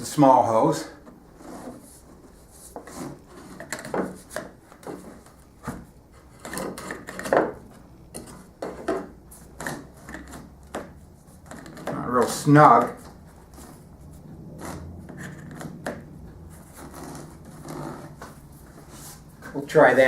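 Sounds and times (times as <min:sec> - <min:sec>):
hard plastic parts scraping: 0:01.0 - 0:19.8.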